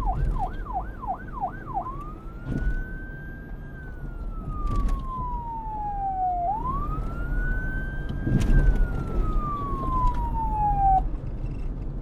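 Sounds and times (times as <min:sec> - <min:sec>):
police siren: 0:00.0 - 0:11.1.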